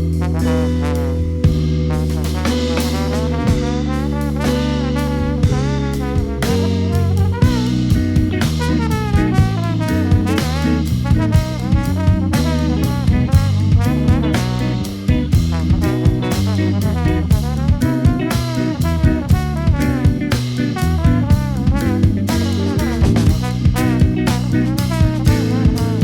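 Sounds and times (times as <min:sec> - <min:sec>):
drum kit beat: 0:00.0 - 0:26.0
electric bass: 0:00.0 - 0:26.0
guitar: 0:00.0 - 0:26.0
horn section playing melody: 0:00.0 - 0:26.0
keyboard: 0:00.0 - 0:26.0.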